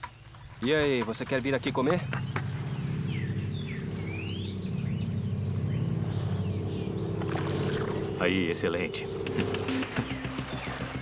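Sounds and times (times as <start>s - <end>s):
birds chirping: 0.0s - 11.0s
low steady drone: 1.6s - 11.0s.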